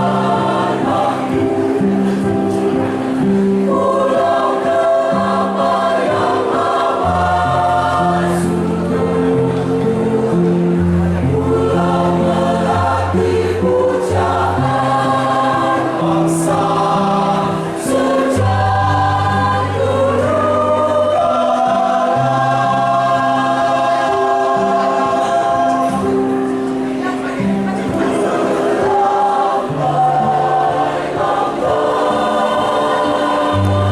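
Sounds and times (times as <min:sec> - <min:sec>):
choir singing long held chords: 0:00.0 - 0:33.9.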